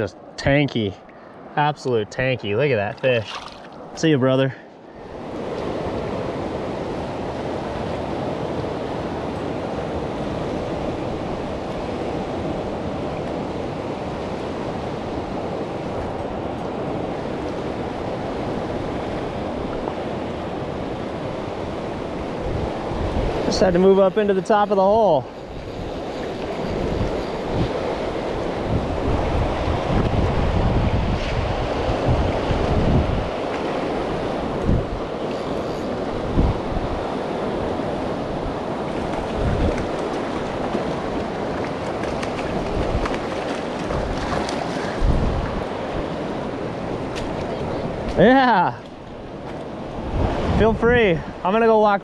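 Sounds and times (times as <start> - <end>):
wind buffeting microphone: 5.1 - 48.2, 49.0 - 51.5.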